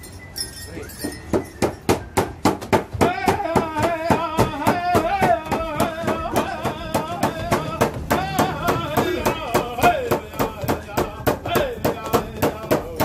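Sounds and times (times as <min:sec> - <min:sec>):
fast steady drumbeat: 0:02.5 - 0:13.0.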